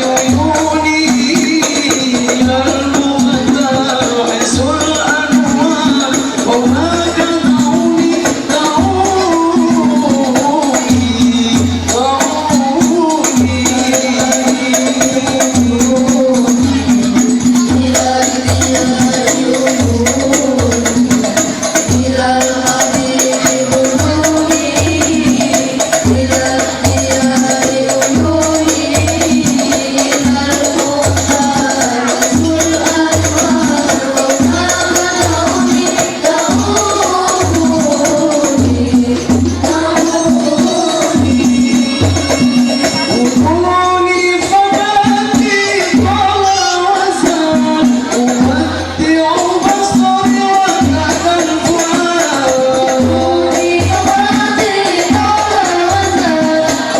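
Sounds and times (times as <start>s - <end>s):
frame drums beating: 0.0s - 56.9s
young voices singing together: 0.0s - 56.9s.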